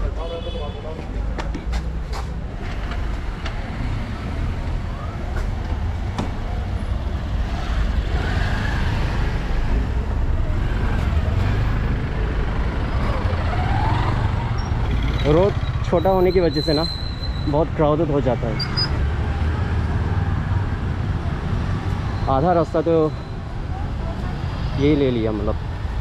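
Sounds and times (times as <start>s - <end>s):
car and scooter engines rumbling: 0.0s - 26.0s.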